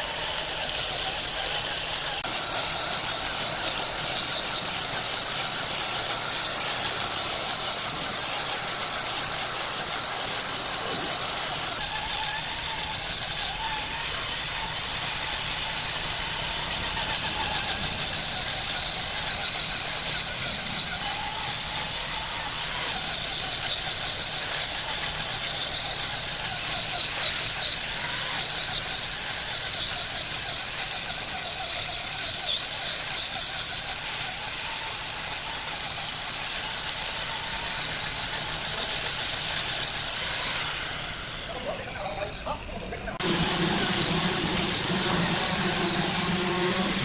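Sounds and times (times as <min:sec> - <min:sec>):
machinery running with high whine: 0:00.0 - 0:47.0.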